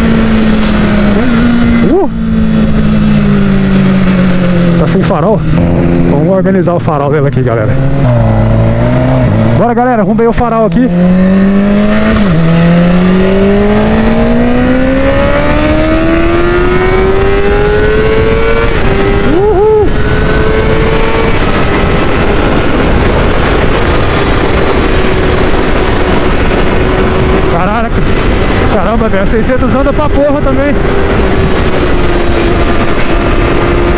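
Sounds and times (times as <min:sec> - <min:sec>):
wind noise: 0:00.0 - 0:10.3, 0:10.9 - 0:33.9
motorcycle engine accelerating: 0:00.0 - 0:33.9.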